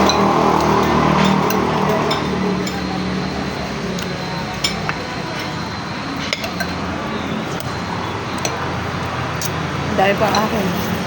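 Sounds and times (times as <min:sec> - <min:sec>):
utensils clinking against bowls: 0:00.0 - 0:08.8, 0:09.4 - 0:11.0
steady background noise: 0:00.0 - 0:11.0.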